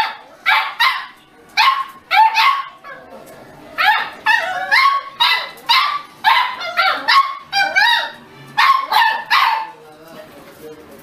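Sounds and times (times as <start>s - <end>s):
puppies yelping: 0.0s - 3.1s, 3.7s - 9.8s.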